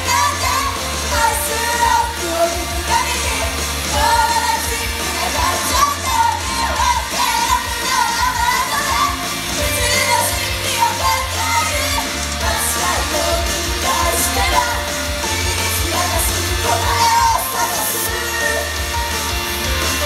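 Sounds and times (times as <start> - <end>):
group singing live: 0.0 - 20.0
loud pop-rock music: 0.0 - 20.0.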